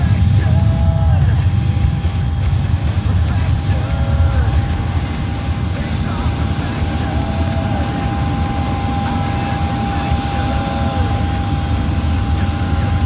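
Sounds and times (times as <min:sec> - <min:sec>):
jet engines at takeoff power: 0:00.0 - 0:13.0.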